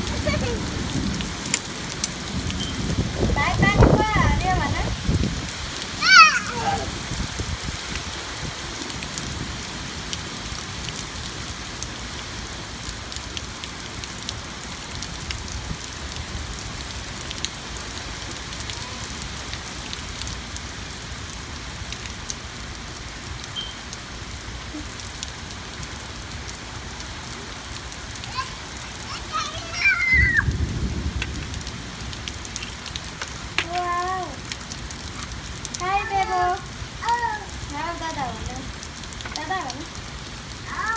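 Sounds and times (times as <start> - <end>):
rain drops pattering: 0.0 - 40.9.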